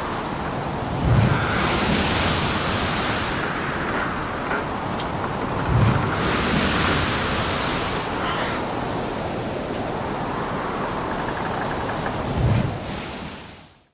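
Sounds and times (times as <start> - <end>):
sea wash: 0.0 - 13.8
wind: 0.0 - 13.9.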